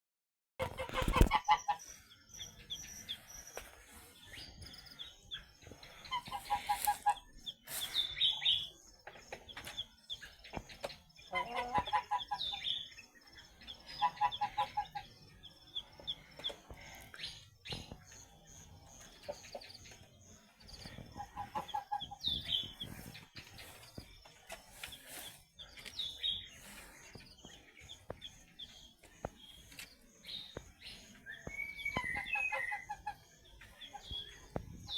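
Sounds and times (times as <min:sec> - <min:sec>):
chickens clucking: 0:00.6 - 0:34.9
high chick chirps: 0:00.6 - 0:34.9.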